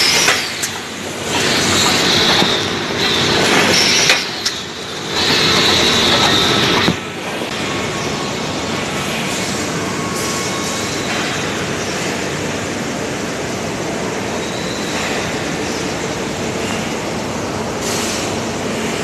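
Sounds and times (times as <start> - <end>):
high machine whine: 0.0 - 19.0
industrial machinery din: 0.0 - 19.0.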